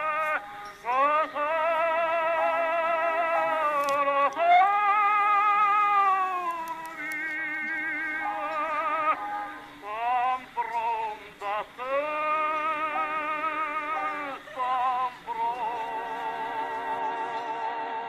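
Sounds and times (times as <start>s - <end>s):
tenor singing on old record: 0.0s - 18.0s.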